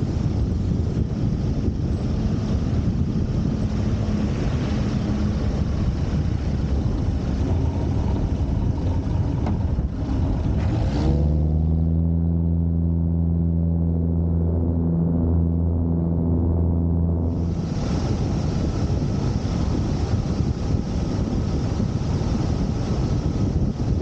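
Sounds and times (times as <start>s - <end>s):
aircraft engine and propeller humming: 0.0s - 24.0s
wind rushing over microphone: 0.0s - 24.0s.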